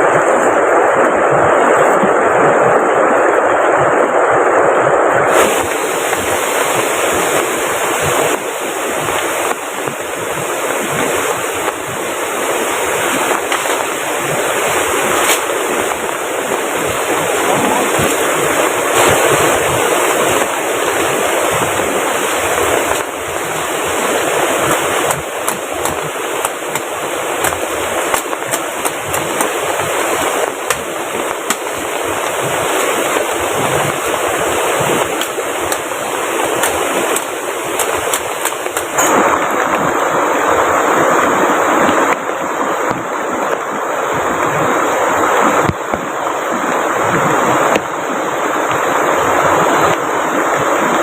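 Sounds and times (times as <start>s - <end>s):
heavy rain: 0.0s - 51.0s
river water rushing: 0.0s - 51.0s.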